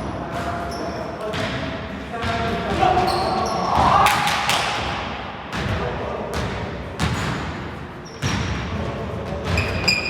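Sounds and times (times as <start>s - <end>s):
basketball bouncing in a hall: 0.0s - 10.0s.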